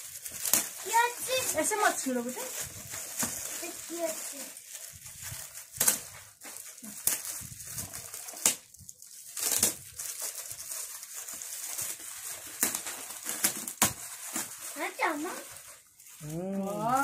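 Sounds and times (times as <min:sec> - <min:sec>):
foil gift wrap crinkling and tearing: 0:00.0 - 0:17.0.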